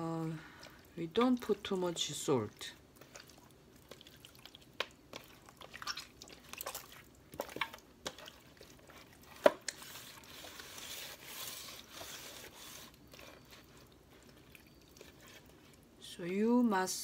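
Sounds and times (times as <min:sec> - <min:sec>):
wet squishing of raw chicken: 0:00.4 - 0:16.0.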